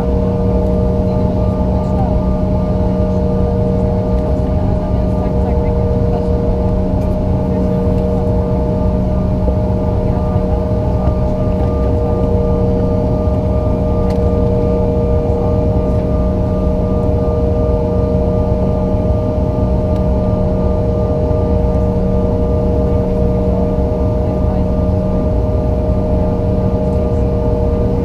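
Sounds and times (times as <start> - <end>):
jet engines droning in cabin: 0.0 - 28.0.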